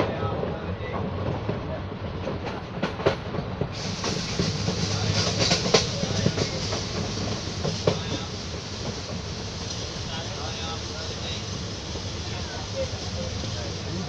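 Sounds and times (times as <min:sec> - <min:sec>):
train rumble and rush: 0:00.0 - 0:14.0
wheels clacking on rails: 0:00.0 - 0:14.0.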